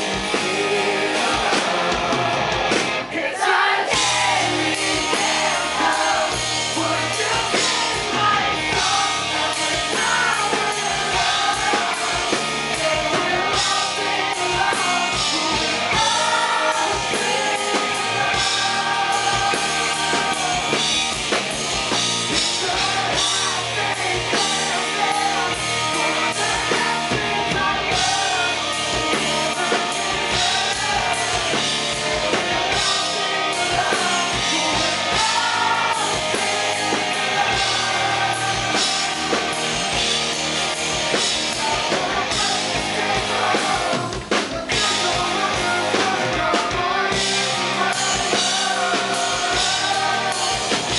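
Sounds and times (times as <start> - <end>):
live rock band playing: 0.0 - 50.9
man singing into microphone: 4.0 - 20.9, 22.3 - 39.5, 41.5 - 50.9.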